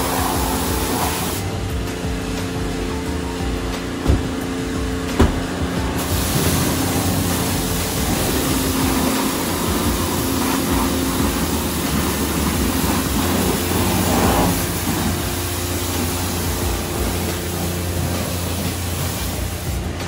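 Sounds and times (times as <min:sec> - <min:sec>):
high-pressure water spraying: 0:00.0 - 0:04.6, 0:05.2 - 0:20.0
pump machinery humming: 0:00.0 - 0:20.0.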